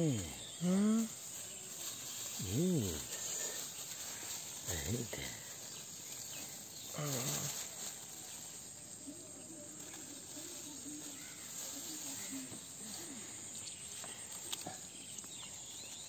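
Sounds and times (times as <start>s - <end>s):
faint distant voices: 0.0s - 16.0s
insects chirring: 0.0s - 16.0s.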